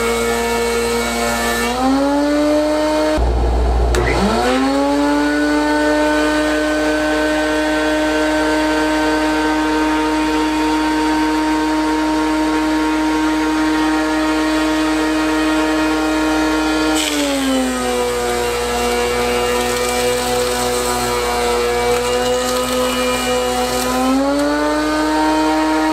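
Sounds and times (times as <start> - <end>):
planer cutting board: 0.0 - 3.2, 3.9 - 25.9
thickness planer whine: 0.0 - 25.9.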